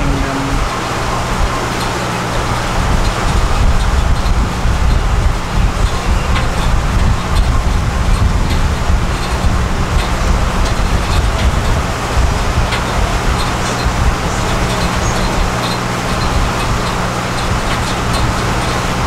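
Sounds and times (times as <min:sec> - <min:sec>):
boat engine running: 0:00.0 - 0:19.0
rushing water noise: 0:00.0 - 0:19.0
wind buffeting microphone: 0:00.0 - 0:19.0.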